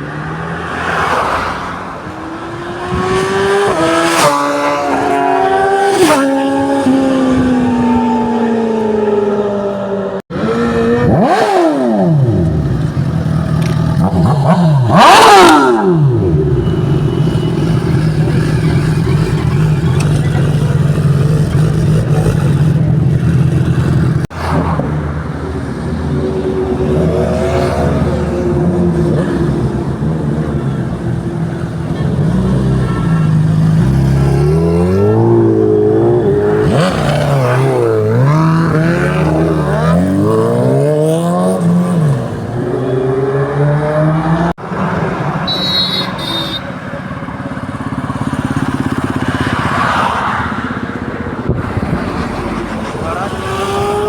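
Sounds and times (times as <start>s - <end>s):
motorcycle engines revving: 0.0s - 54.0s
motorcycles passing by: 0.0s - 54.0s.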